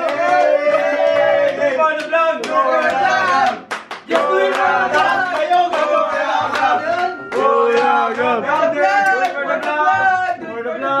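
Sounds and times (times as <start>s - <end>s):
young people shouting and chanting: 0.0s - 11.0s.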